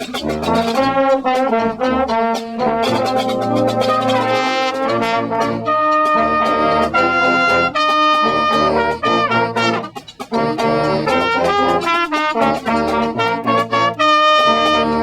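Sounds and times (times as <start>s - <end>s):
brass band playing a tune: 0.0s - 15.0s.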